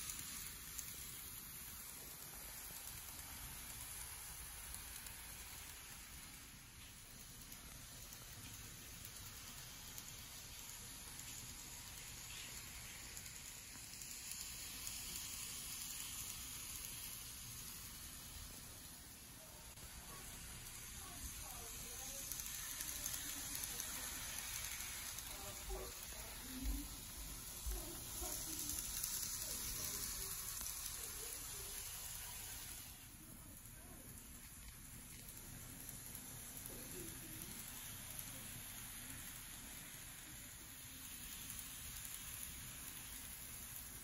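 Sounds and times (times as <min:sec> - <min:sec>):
model trains whirring on track: 0:00.0 - 0:44.0.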